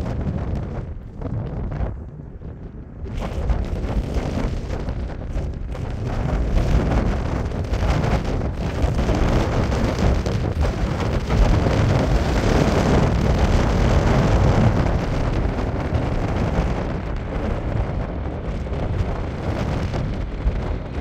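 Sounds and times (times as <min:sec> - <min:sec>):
jet airliner engine noise: 0:00.0 - 0:21.0
wind gusting on microphone: 0:00.0 - 0:21.0.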